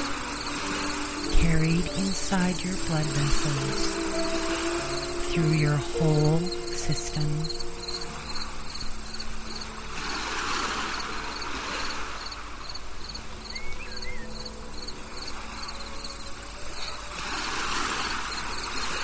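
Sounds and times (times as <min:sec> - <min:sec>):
crickets chirping: 0:00.0 - 0:19.0
high insect whine: 0:00.0 - 0:19.0.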